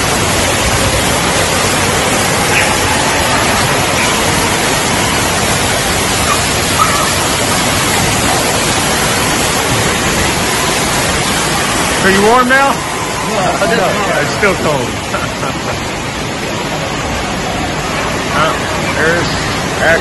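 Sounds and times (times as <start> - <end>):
water rushing and splashing: 0.0 - 20.0.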